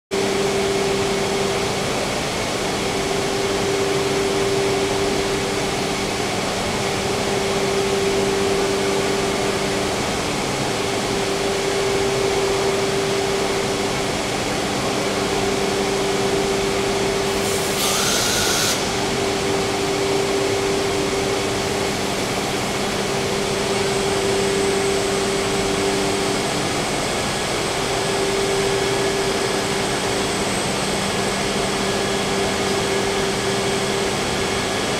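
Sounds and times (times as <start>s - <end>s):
cnc router droning: 0.2s - 34.9s.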